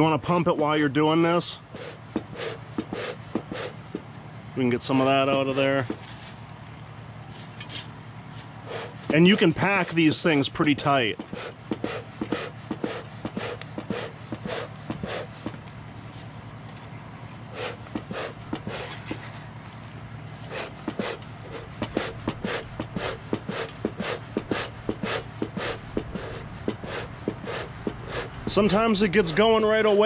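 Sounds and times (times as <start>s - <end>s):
smoker bellows puffing air: 0.0s - 6.5s, 7.2s - 16.4s, 17.4s - 19.6s, 20.2s - 29.6s.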